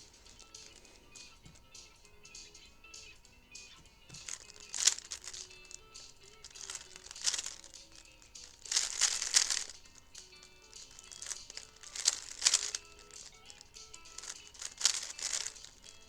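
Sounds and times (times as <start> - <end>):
faint background music: 0.0 - 16.0
speed cube clacking: 0.0 - 16.0.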